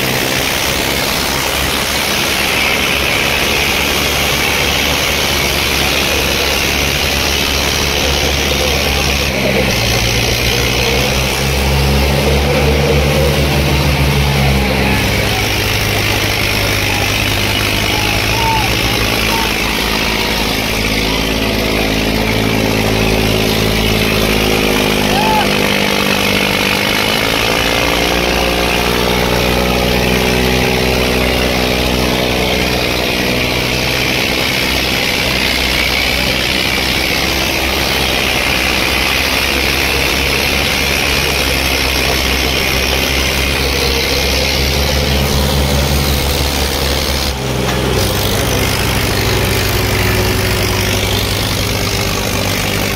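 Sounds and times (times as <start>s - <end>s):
tractor diesel engines running hard: 0.0s - 52.9s.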